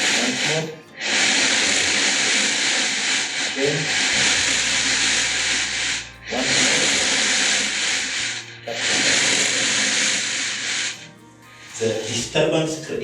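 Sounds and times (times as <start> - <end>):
loud hissing: 0.0 - 12.5.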